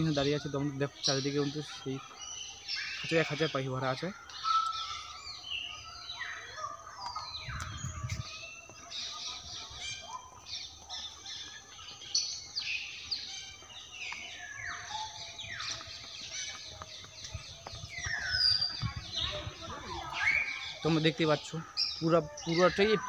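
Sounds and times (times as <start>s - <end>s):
caged birds chirping: 0.0s - 23.0s.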